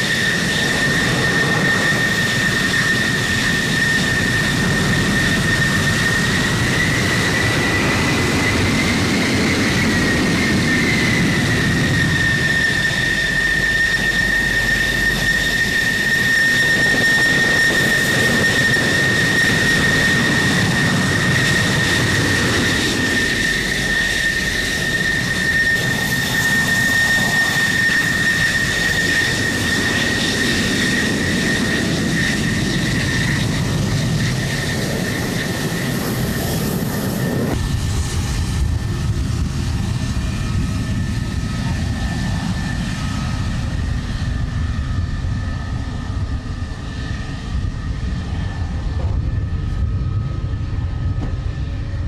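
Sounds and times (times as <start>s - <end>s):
jet engine whine and rumble: 0.0s - 52.0s.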